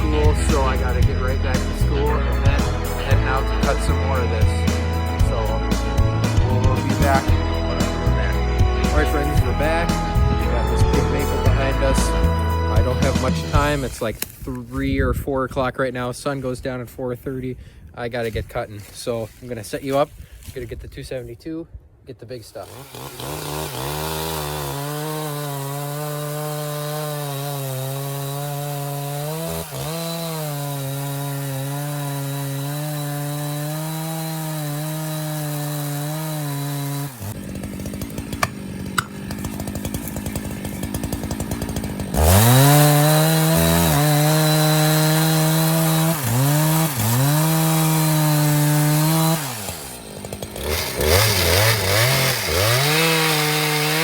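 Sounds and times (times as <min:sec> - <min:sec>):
chainsaw revving and idling: 0:00.0 - 0:14.4, 0:22.6 - 0:54.0.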